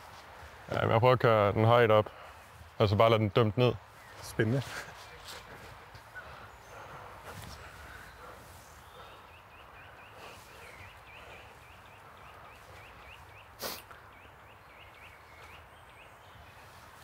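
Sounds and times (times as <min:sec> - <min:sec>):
bird chirping: 0:03.4 - 0:17.0.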